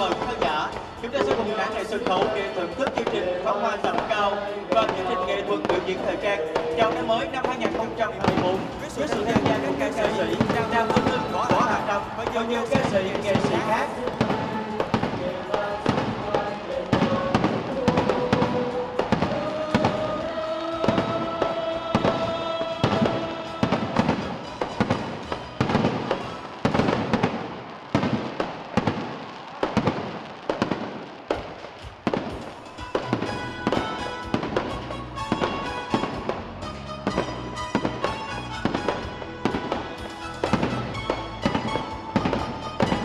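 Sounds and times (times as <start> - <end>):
music playing: 0.0 - 27.4, 31.3 - 43.0
fireworks bursting with sharp bangs: 0.0 - 43.0.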